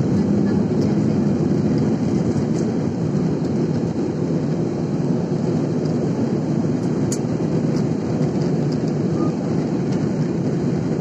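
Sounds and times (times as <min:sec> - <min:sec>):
airliner cabin roar: 0:00.0 - 0:11.0.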